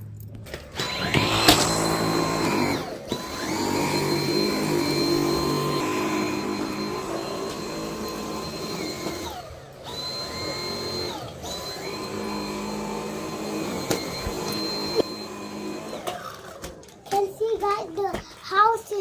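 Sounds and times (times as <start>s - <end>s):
vacuum cleaner whine: 0.4s - 17.8s.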